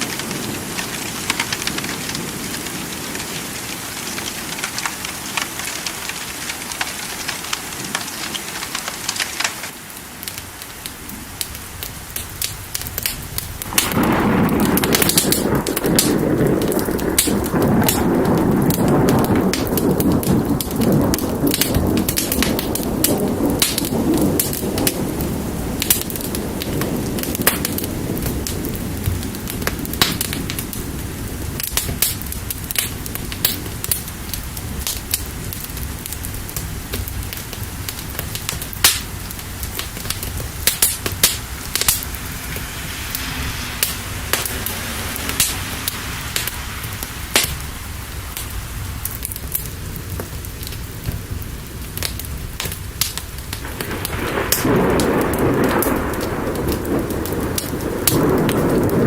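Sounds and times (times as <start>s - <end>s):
steady rain: 0.0s - 59.0s
thunder rumbling: 0.0s - 59.0s
wood fire crackling and popping: 0.0s - 59.0s.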